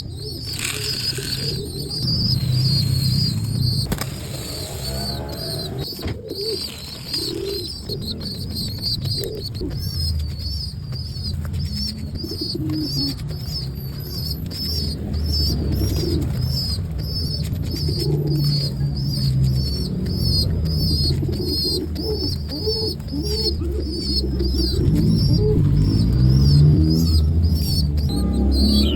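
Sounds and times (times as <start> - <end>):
pigeon squab squeaking: 0.0 - 28.9
wings fluttering: 0.0 - 28.9.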